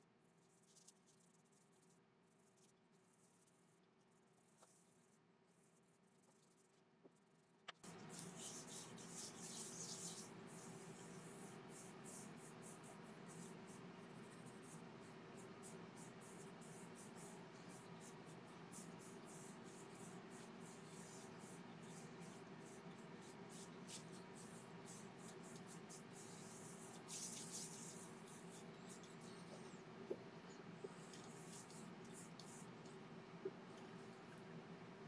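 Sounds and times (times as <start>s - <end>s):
steady low hum: 5.5s - 35.0s.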